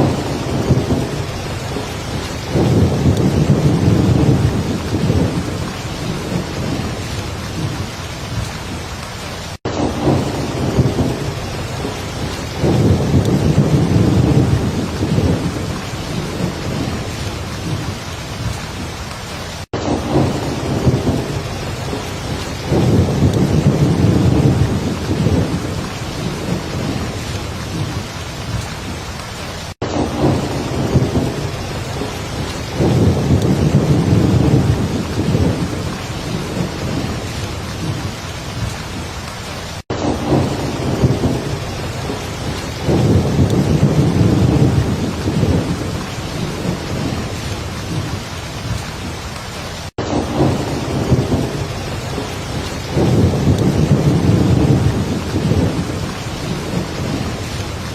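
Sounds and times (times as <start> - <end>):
low rumble of thunder: 0.0 - 29.2, 29.8 - 49.2, 50.0 - 57.9
heavy rain falling: 0.0 - 57.9.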